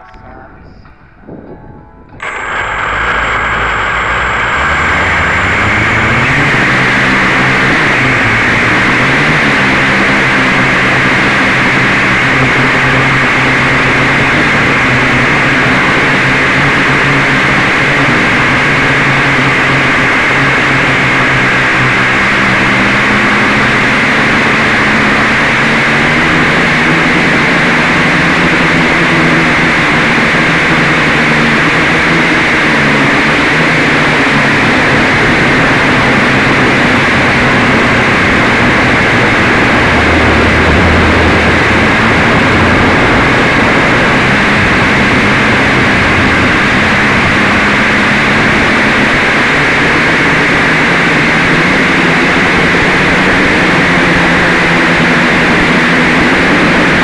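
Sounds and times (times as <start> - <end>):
quadcopter motors buzzing: 0.0 - 57.0
rush of air noise: 0.0 - 57.0.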